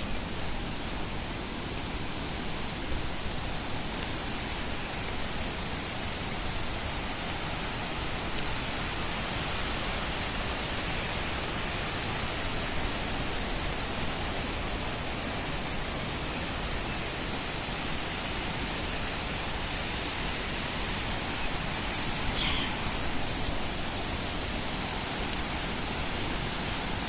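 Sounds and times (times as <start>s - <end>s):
fast-running water rushing: 0.0s - 27.0s.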